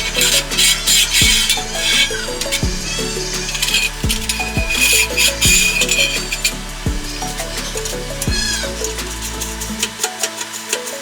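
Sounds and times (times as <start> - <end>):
music with kick-drum beat: 0.0 - 11.0.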